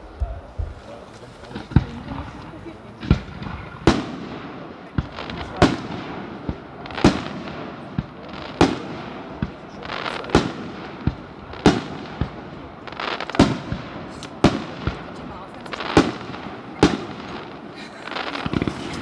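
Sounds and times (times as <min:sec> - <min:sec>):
fireworks bangs with echo: 0:00.0 - 0:19.0
fireworks crackling: 0:00.0 - 0:19.0.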